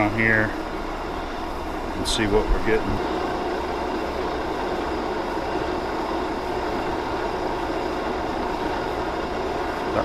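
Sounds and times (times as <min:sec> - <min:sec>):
metal lathe running: 0:00.0 - 0:10.0.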